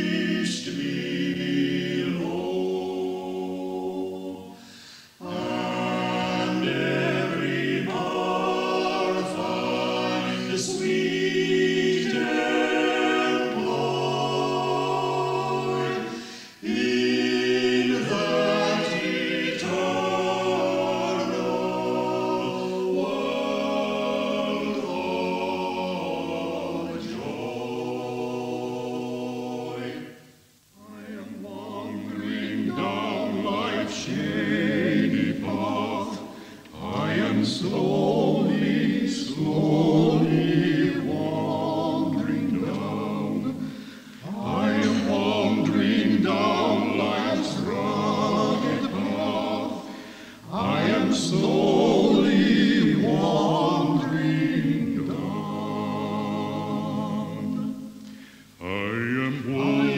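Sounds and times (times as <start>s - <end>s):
choir singing held notes: 0.0s - 59.9s.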